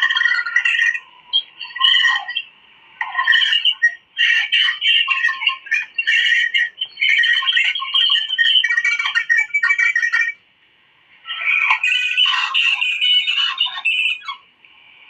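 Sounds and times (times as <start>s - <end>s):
bird squawking and chattering: 0.0s - 10.4s, 11.3s - 14.5s.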